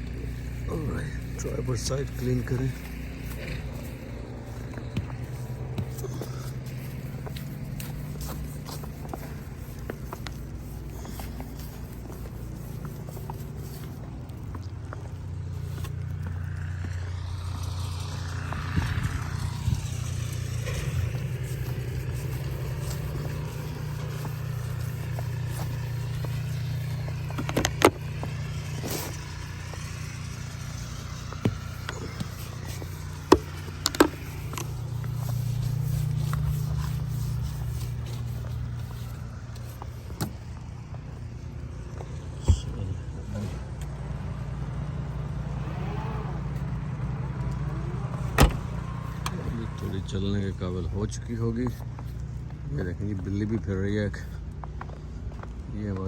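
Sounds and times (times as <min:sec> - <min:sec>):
snow brush scraping car: 0:00.0 - 0:55.5
car engine idling: 0:00.0 - 0:56.0.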